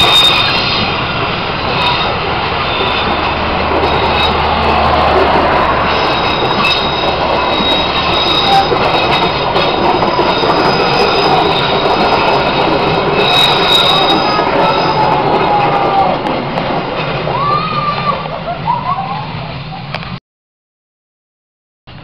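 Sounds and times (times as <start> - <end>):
clicks of train wheels: 0.0 - 18.6, 19.8 - 20.2
high wheel squeal: 0.0 - 20.0
train wheels rushing on rails: 0.0 - 20.2.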